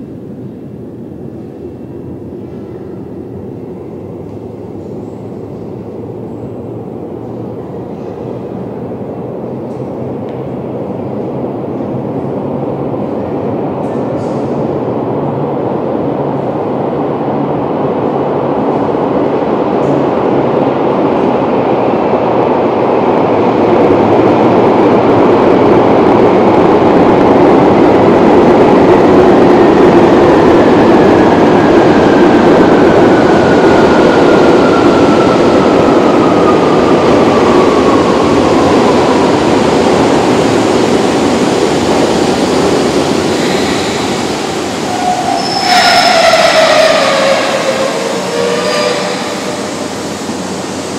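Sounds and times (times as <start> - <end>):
train rumbling in tunnel: 0.0 - 50.9.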